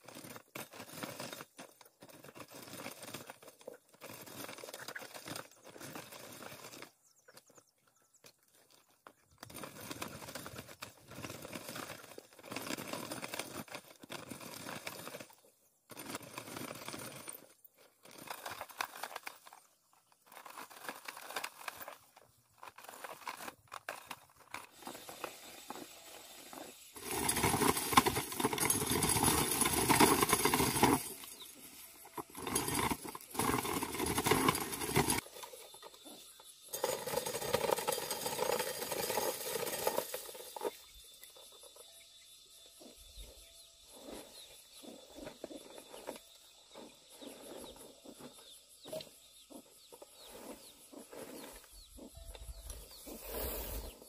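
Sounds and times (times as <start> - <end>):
corn kernels scraping and rattling: 0.0 - 54.0.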